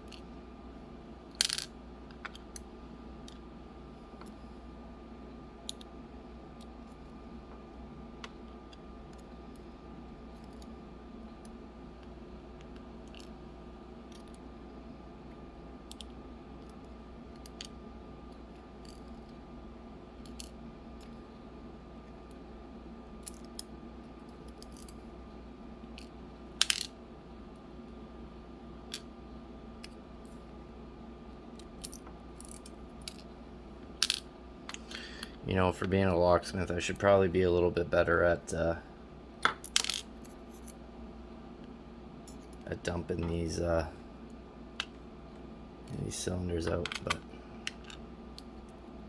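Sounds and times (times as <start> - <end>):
low background hum: 0.0 - 49.0.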